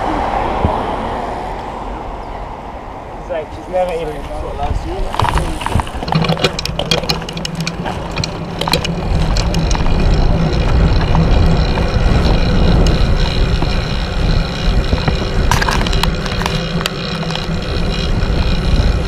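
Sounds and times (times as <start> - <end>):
wind rushing over microphone: 0.0 - 19.0
bicycle tyres rolling on asphalt: 3.2 - 19.0.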